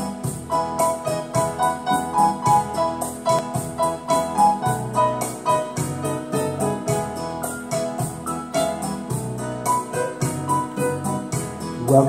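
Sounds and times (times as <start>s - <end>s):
digital piano melody and chords: 0.0s - 12.0s.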